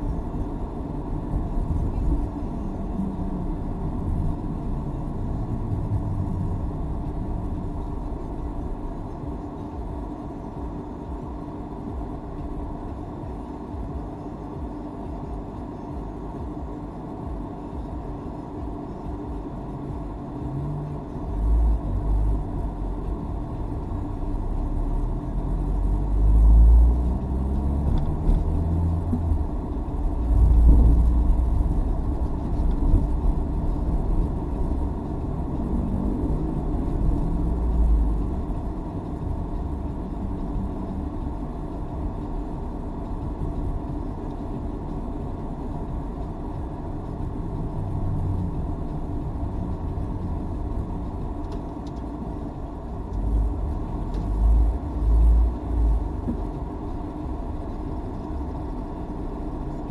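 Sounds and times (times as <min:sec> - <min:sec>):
car engine rumble: 0:00.0 - 0:59.9
road noise: 0:00.0 - 0:59.9.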